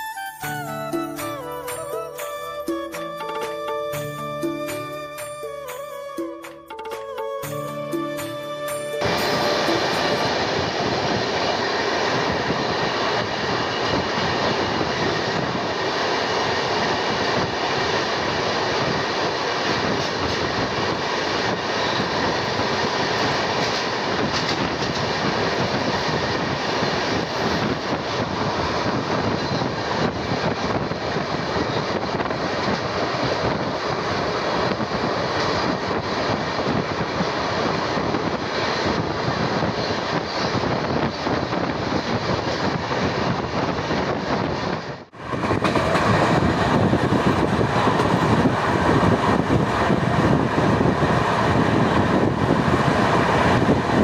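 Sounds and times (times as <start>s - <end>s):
train wheels on rails: 0.1s - 54.0s
rushing air: 9.0s - 54.0s.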